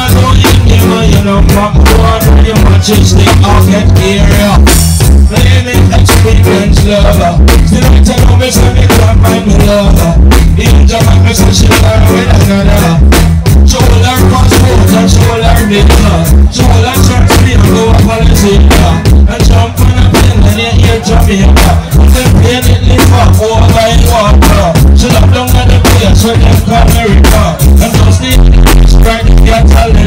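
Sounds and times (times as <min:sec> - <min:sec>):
drum beat: 0:00.0 - 0:30.0
heavy bass: 0:00.0 - 0:30.0
live reggae band: 0:00.0 - 0:30.0.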